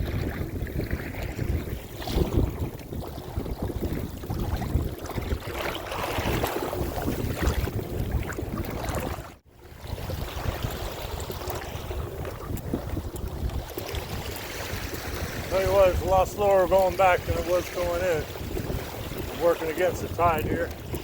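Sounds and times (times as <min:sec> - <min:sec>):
water swishing along kayak: 0:00.0 - 0:21.0
wind buffeting microphone: 0:00.0 - 0:21.0.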